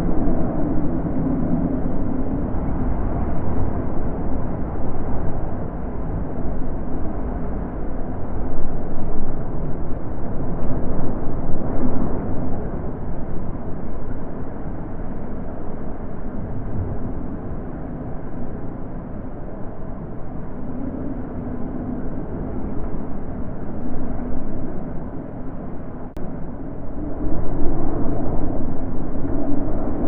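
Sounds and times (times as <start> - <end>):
wind blowing in gusts: 0.0 - 30.0.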